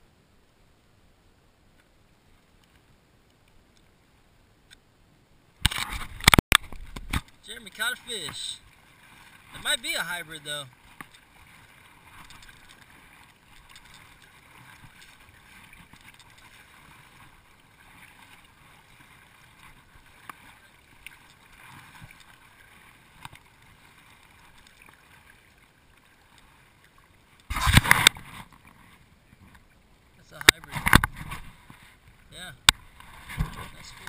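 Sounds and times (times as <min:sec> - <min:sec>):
paddle stroking through water: 0:05.7 - 0:29.8, 0:30.7 - 0:34.0.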